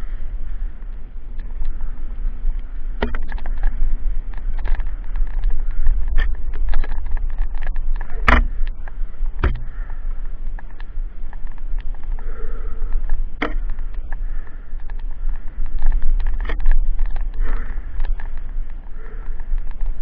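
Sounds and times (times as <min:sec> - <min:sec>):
bike rattling and knocking: 0:00.0 - 0:20.0
bike tyre noise on dirt: 0:00.0 - 0:20.0
wind rumbling on microphone: 0:00.0 - 0:20.0.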